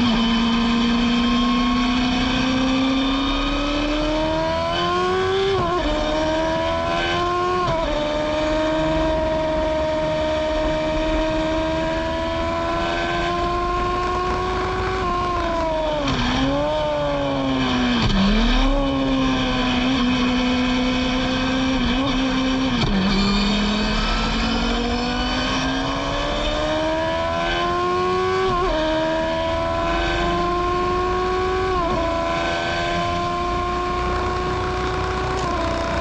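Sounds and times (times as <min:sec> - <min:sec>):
race car engine revving: 0:00.0 - 0:36.0
wind and road noise: 0:00.0 - 0:36.0.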